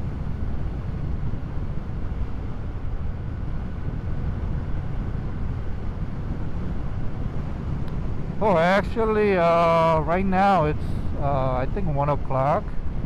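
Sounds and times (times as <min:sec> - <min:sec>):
wind noise: 0:00.0 - 0:13.0.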